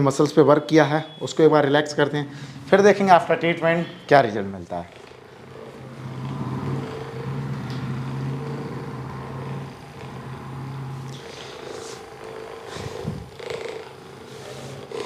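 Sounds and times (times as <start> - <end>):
electric massager humming: 0.6 - 15.0.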